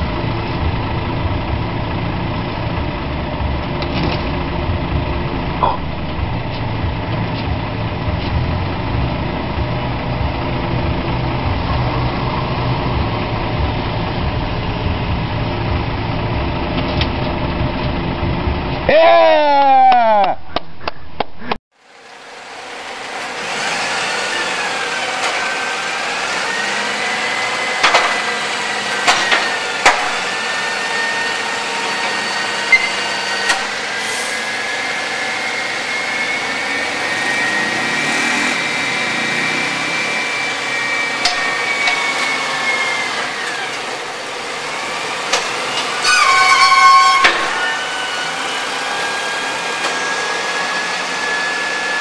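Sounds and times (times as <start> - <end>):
hydraulic lifting gear whining: 0.0 - 19.0, 22.0 - 52.0
truck engine running: 0.0 - 46.5.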